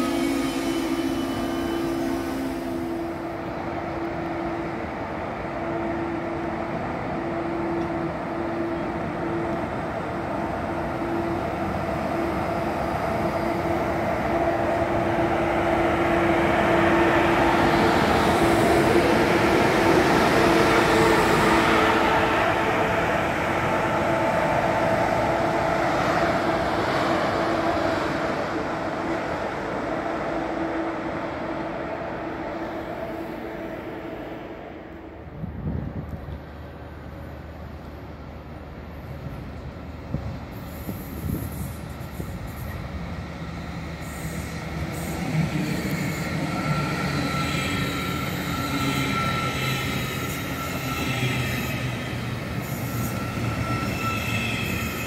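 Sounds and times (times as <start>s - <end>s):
train rolling rail noise: 0.0s - 55.0s.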